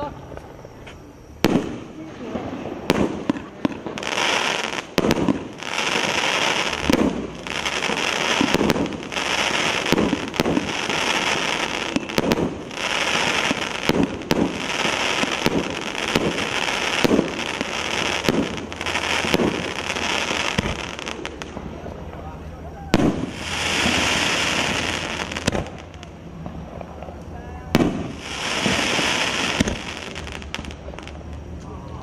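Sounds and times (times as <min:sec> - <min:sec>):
fireworks crackling: 0:00.0 - 0:32.0
fireworks bangs: 0:01.4 - 0:32.0.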